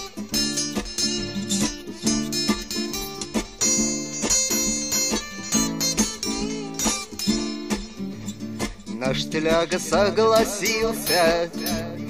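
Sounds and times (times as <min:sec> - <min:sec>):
guitars strumming chords: 0:00.0 - 0:12.0.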